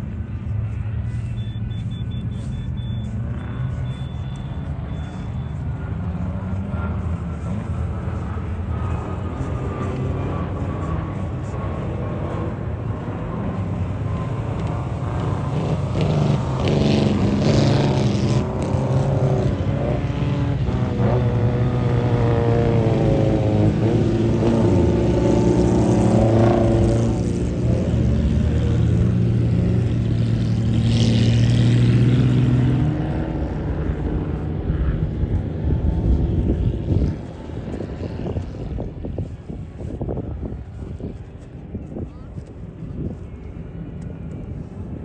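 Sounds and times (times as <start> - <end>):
engine passing by: 0.0 - 45.0.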